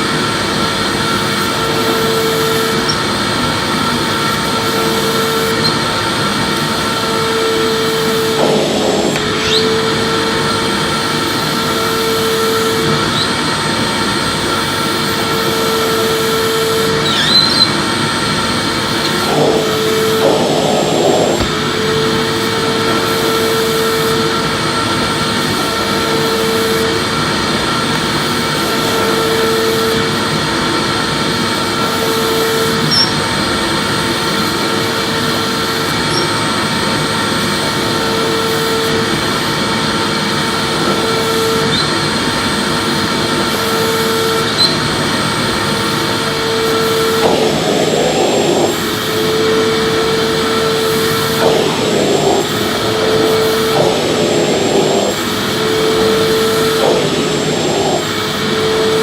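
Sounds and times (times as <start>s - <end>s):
low hum of vacuum nozzle: 0.0s - 59.0s
vacuum cleaner motor whine: 0.0s - 59.0s.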